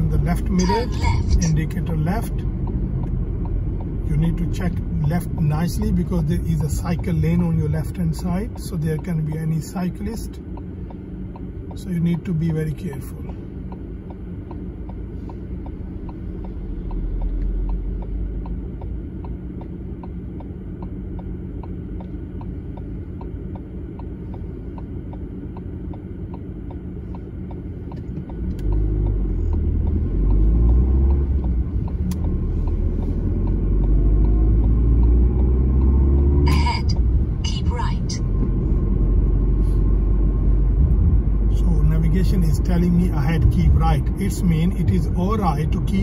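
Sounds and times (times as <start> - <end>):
car engine idling: 0.0 - 46.0
car pulling away: 0.0 - 46.0
turn signal ticking: 0.0 - 46.0.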